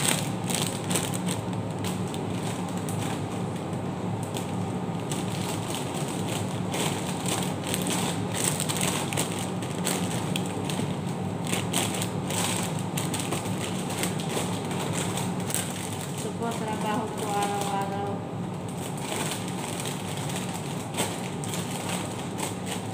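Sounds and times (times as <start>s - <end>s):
plastic wrappers crinkling: 0.0s - 22.9s
steady low hum: 0.0s - 22.9s.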